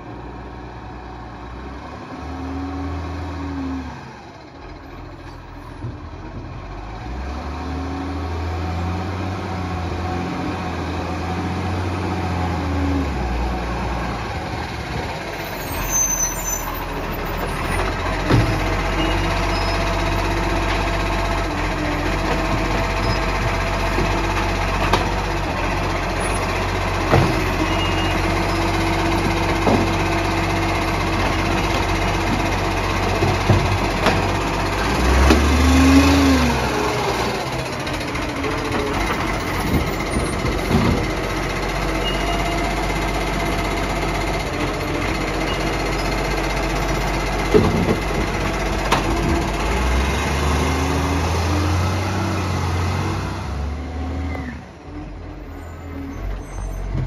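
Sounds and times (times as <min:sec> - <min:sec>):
garbage truck diesel engine: 0:00.0 - 0:57.0.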